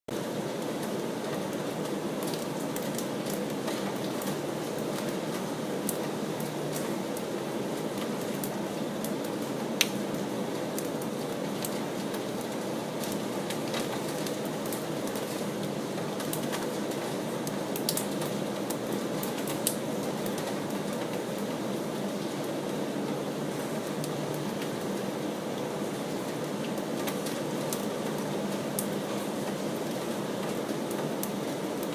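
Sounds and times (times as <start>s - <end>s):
steady rain: 0.1s - 31.9s.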